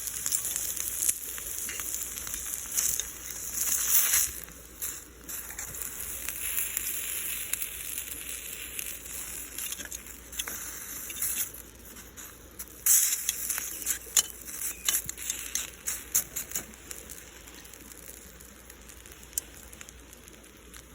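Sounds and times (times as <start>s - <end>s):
bacon sizzling in a skillet: 0.0s - 20.9s
fat popping and crackling: 0.0s - 20.9s.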